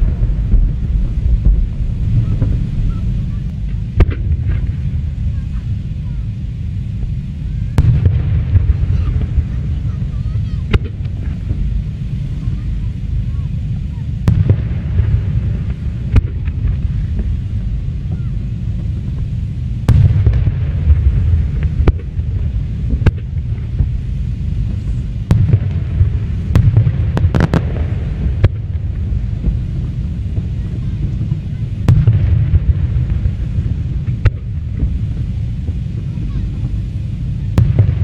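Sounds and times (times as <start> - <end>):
deep rumble: 0.0 - 38.0
fireworks bangs and cracks: 0.0 - 38.0.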